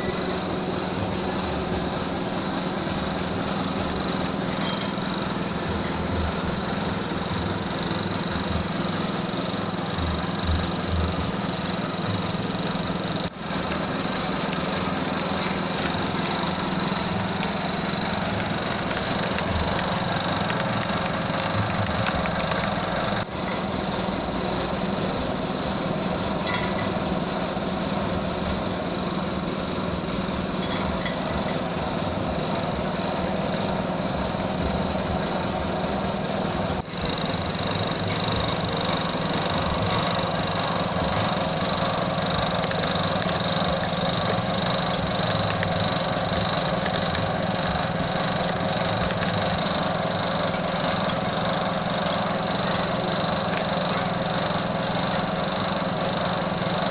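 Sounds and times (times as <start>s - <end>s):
dense even machine noise: 0.0s - 56.9s
machine motor hum: 0.0s - 56.9s.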